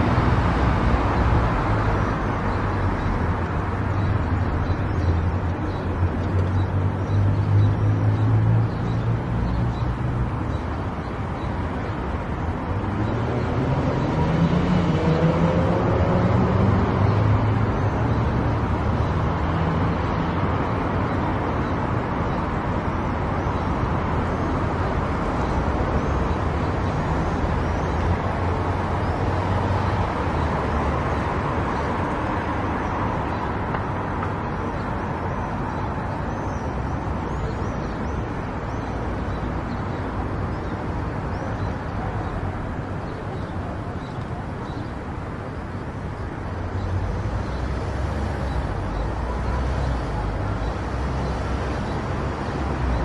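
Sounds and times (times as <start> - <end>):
tyre road noise: 0.0 - 53.0.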